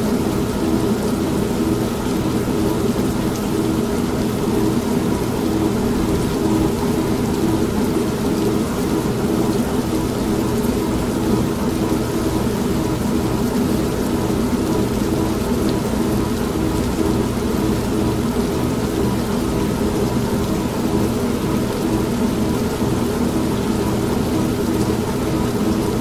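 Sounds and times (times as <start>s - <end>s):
steady rain: 0.0s - 26.0s
washing machine humming: 0.0s - 26.0s.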